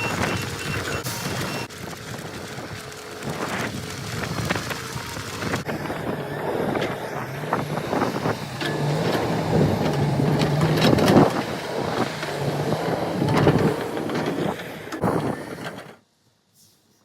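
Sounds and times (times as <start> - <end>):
engine humming: 0.0 - 16.0
engine knocks and clatter: 0.0 - 16.0.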